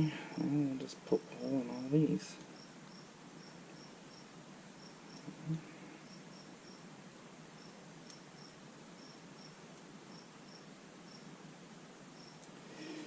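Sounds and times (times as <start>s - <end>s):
cricket chirping: 1.2s - 11.4s, 12.1s - 13.0s.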